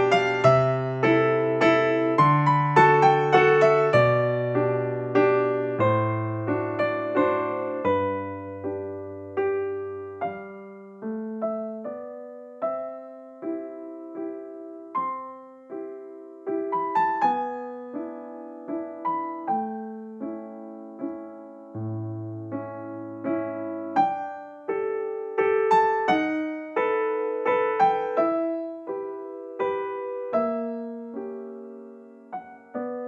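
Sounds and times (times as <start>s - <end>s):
gentle piano melody: 0.0s - 33.0s.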